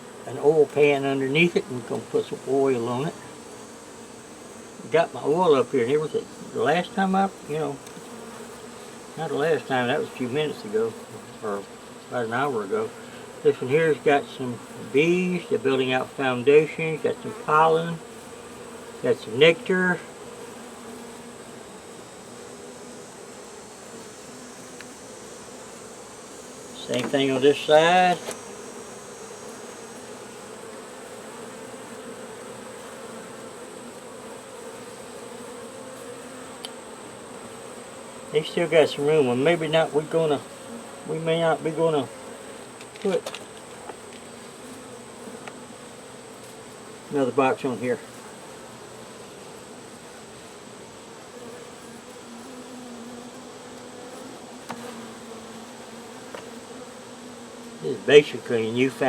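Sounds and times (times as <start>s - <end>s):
honey bees buzzing: 0.0s - 59.0s.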